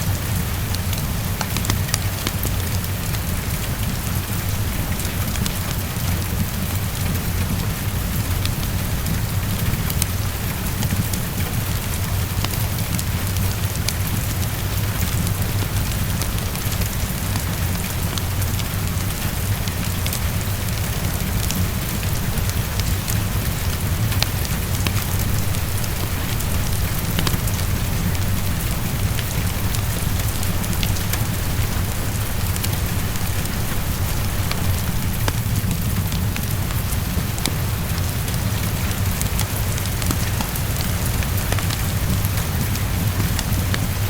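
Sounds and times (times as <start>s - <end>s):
heavy rain falling: 0.0s - 44.0s
wood fire crackling: 0.1s - 44.0s.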